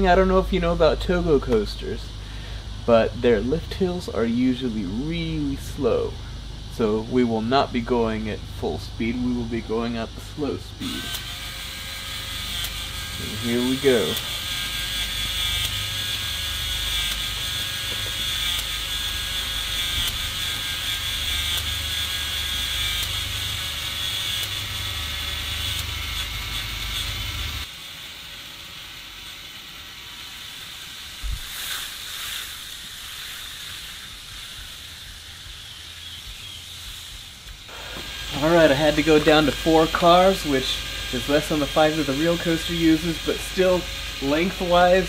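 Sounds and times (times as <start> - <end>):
motor whirring with chain rattle: 0.0 - 45.0
steady hiss: 0.0 - 45.0.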